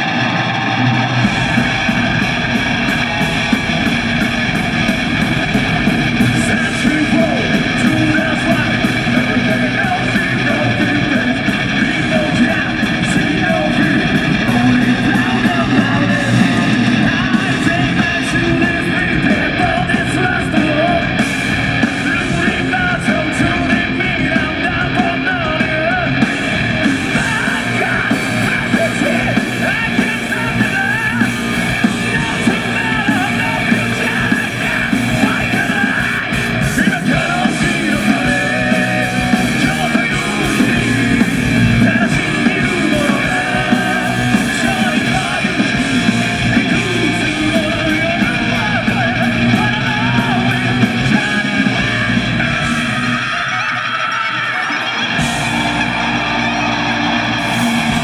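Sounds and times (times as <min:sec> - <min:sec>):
drum kit: 0:00.0 - 0:58.0
electric bass: 0:00.0 - 0:58.0
electric guitars: 0:00.0 - 0:58.0
person singing and yelling: 0:00.0 - 0:58.0.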